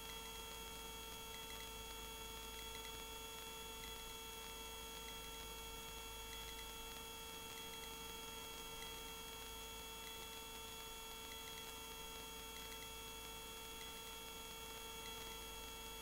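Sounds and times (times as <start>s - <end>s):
faint small ticks: 0.0s - 16.0s.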